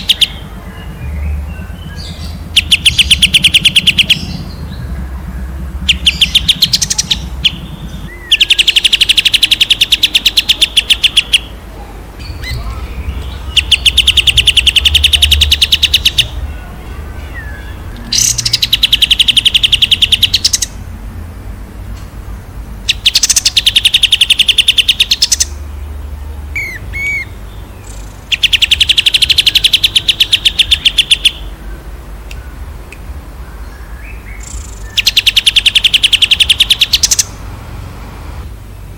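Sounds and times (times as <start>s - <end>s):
songbird trilling: 0.0s - 20.8s, 22.8s - 37.4s.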